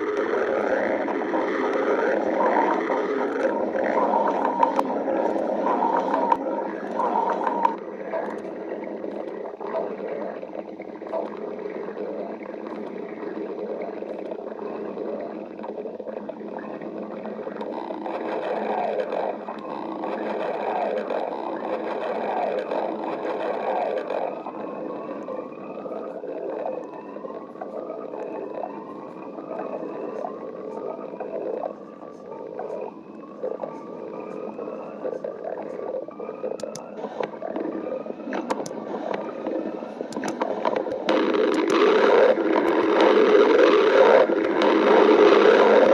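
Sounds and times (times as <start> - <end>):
stomach growling: 0.0 - 45.9.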